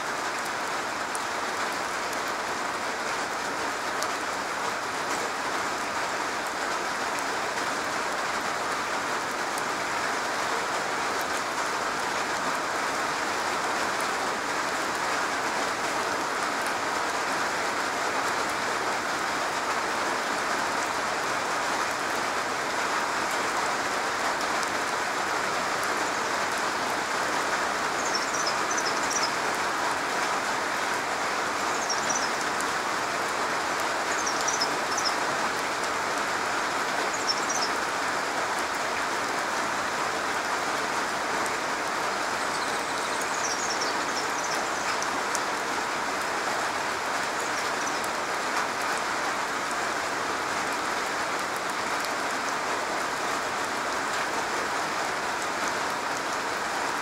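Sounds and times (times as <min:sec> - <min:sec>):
rain pattering on a roof: 0:00.0 - 0:57.0.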